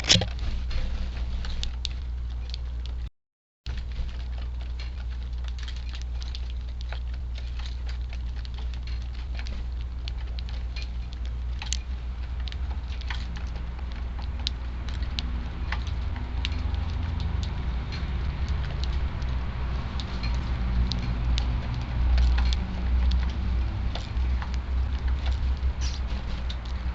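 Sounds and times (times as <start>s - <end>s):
sparrows pecking at food: 0.0s - 3.0s, 3.7s - 26.9s
wind buffeting microphone: 3.8s - 26.9s.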